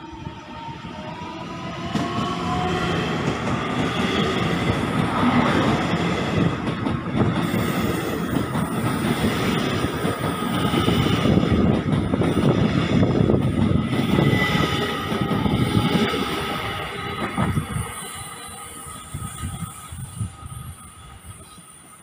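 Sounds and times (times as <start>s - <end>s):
train rumble and wheel clatter: 0.0s - 22.0s.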